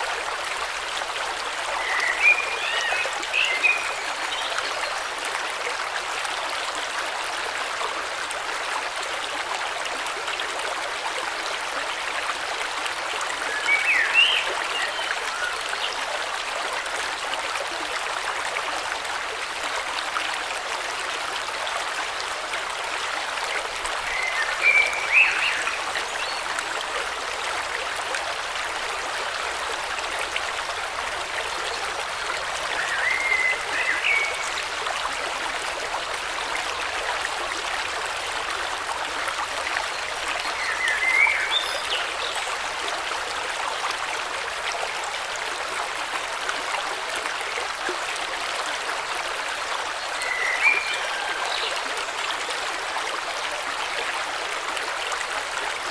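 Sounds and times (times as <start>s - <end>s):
stream running: 0.0s - 55.9s.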